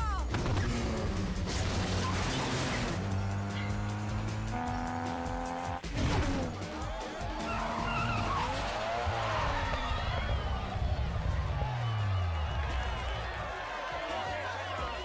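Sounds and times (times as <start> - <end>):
film music: 0.1 - 14.7
car engines revving: 0.3 - 13.2
tyres skidding: 0.5 - 13.4.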